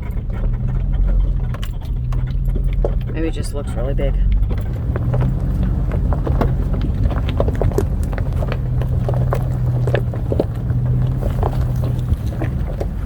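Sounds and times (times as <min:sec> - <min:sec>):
knocks and rattles over rocks: 0:00.0 - 0:13.0
low engine hum: 0:00.0 - 0:13.0.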